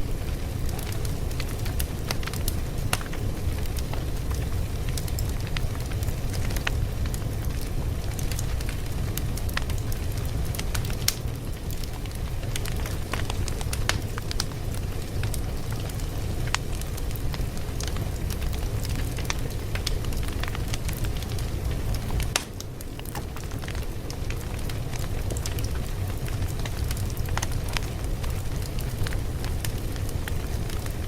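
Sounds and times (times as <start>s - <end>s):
fire crackling: 0.0s - 31.0s.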